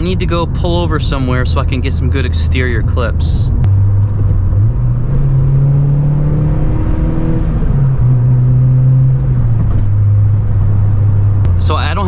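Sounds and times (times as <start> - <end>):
car engine and exhaust rumble: 0.0 - 12.0.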